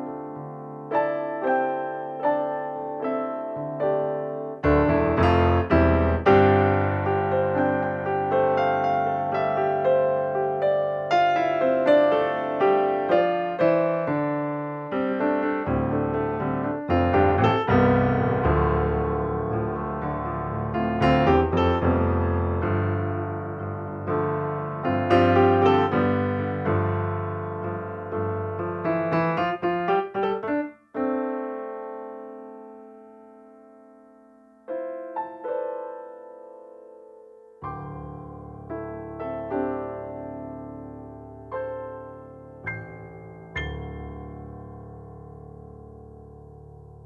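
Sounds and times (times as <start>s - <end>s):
solo piano music: 0.0s - 47.0s.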